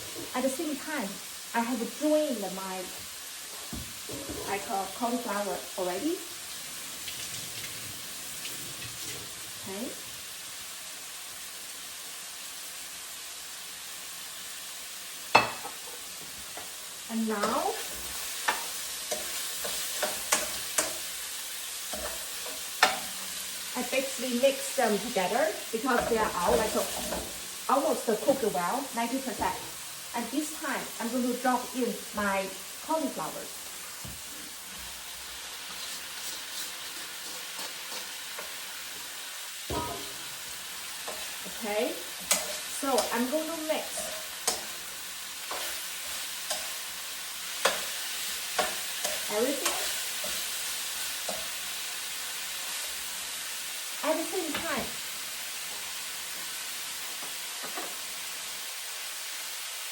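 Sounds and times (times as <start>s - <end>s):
meat and vegetables sizzling in oil: 0.0s - 59.9s.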